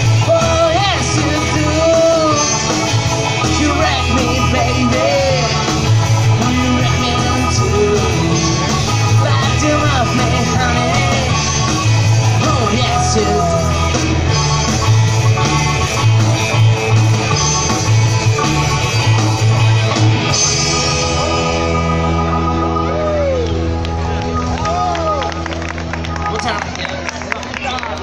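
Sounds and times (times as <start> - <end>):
sliding electric guitar notes: 0.0 - 27.6
live rock band playing: 0.0 - 28.0.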